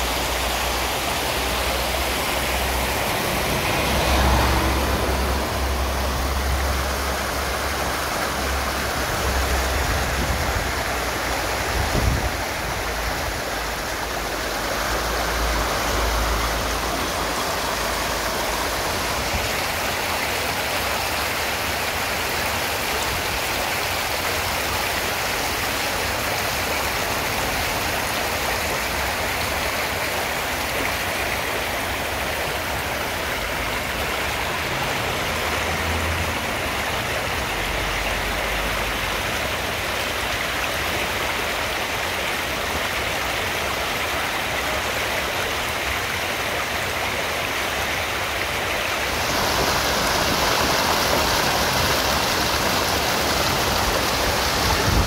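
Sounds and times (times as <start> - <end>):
stream rushing over cascades: 0.0 - 55.0.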